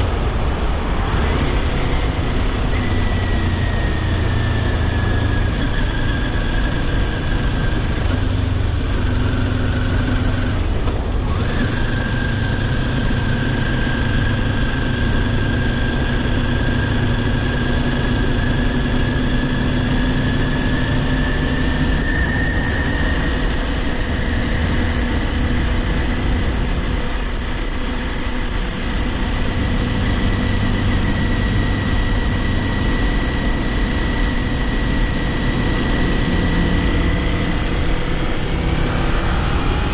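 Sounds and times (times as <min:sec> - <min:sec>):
high engine whine: 0:00.0 - 0:39.9
motorcycle engine running: 0:00.0 - 0:39.9
wind and road noise: 0:00.0 - 0:39.9.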